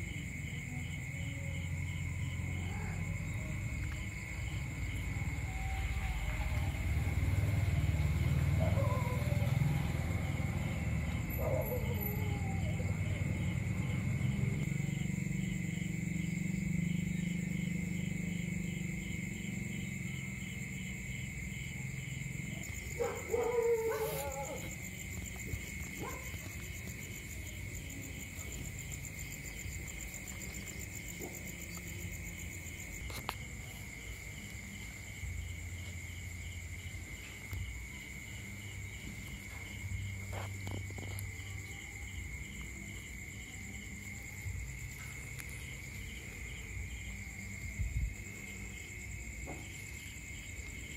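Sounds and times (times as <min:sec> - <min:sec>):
night insects chirping: 0:00.0 - 0:50.9.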